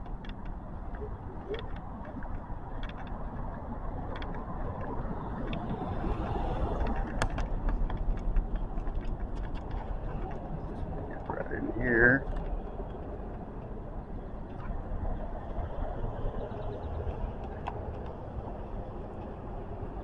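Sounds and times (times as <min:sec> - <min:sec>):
faint clicks: 0:00.0 - 0:20.0
street traffic: 0:00.0 - 0:20.0.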